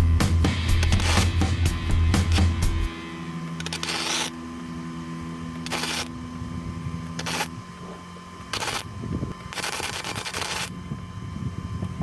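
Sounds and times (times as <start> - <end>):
welder arc crackling: 0.4 - 11.1.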